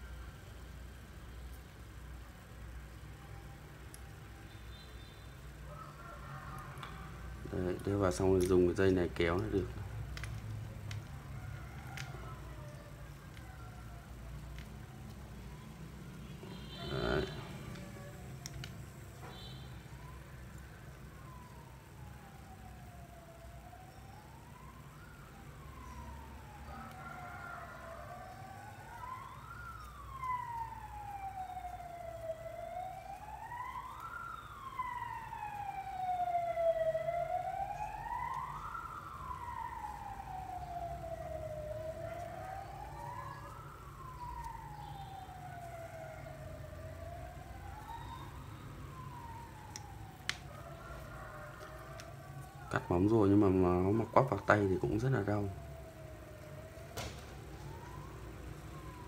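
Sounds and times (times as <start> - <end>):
siren wailing: 0.0 - 1.2, 2.0 - 59.0.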